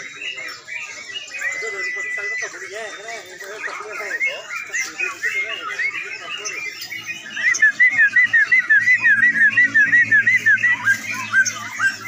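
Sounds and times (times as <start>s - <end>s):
birds singing whistled notes: 0.0s - 12.0s.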